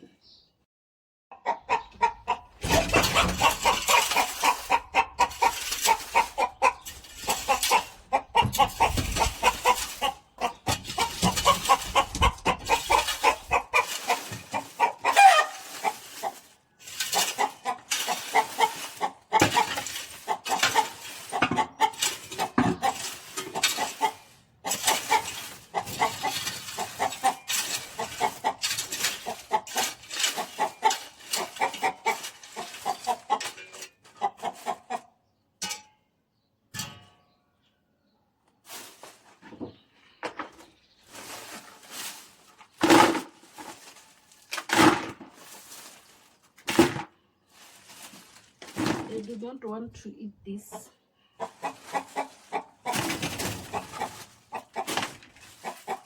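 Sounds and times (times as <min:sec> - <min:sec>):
chickens clucking: 0:01.3 - 0:35.8, 0:38.5 - 0:56.0.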